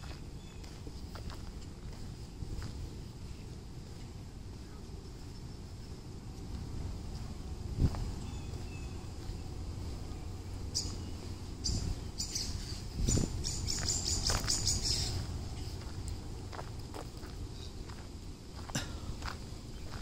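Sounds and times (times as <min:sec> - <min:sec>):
songbirds chirping: 0:00.0 - 0:20.0
steady low rumble: 0:00.0 - 0:20.0.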